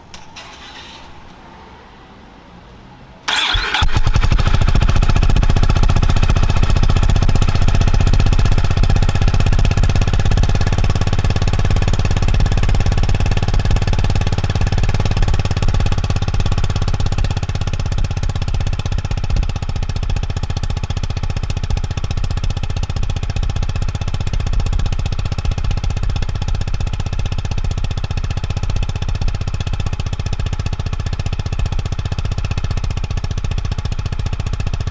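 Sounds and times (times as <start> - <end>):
motorcycle engine starting and idling: 0.0 - 1.8, 3.2 - 34.9.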